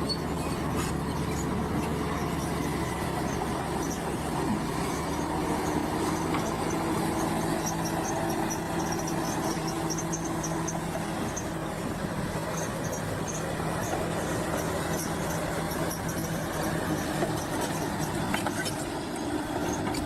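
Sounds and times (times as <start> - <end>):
bulldozer diesel engine: 0.0 - 20.0.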